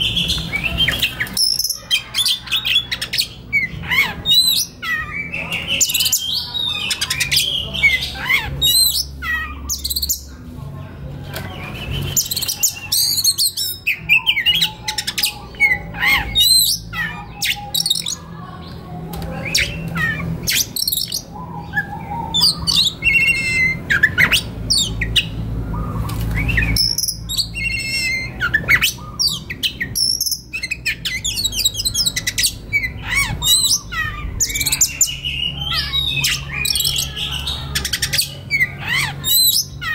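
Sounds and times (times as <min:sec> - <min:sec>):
songbird singing: 0:00.0 - 0:39.9
steady low hum: 0:02.7 - 0:39.9.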